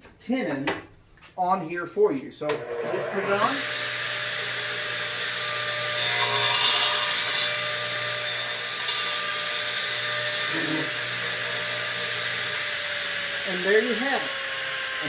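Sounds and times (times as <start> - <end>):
saw blade cutting wood: 2.5 - 15.0
saw motor humming: 2.5 - 15.0.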